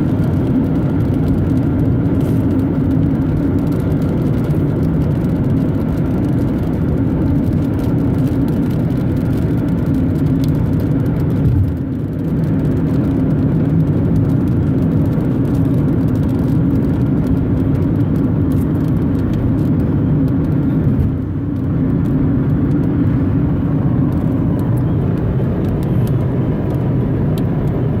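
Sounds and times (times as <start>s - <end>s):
car road and engine noise: 0.0s - 28.0s.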